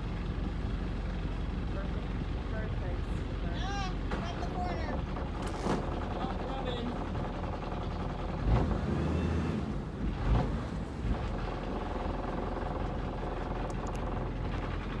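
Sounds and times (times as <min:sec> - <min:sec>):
boat engine humming: 0:00.0 - 0:10.0, 0:10.6 - 0:15.0.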